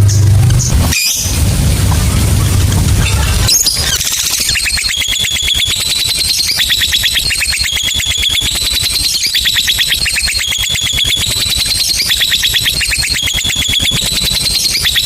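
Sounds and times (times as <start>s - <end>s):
lovebird chattering trill: 2.3s - 15.0s.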